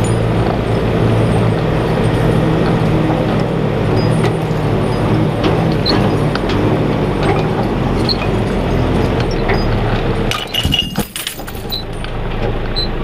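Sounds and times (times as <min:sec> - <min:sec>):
metal clinking and rattling: 0:00.0 - 0:12.7
clattering: 0:00.0 - 0:13.0
diesel engine running: 0:00.0 - 0:13.0.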